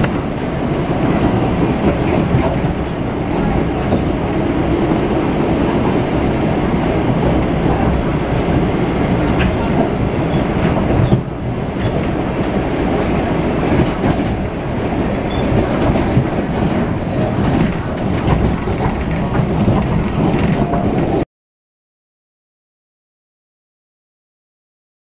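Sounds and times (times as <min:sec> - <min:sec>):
train wheels rumbling on rails: 0:00.0 - 0:21.2.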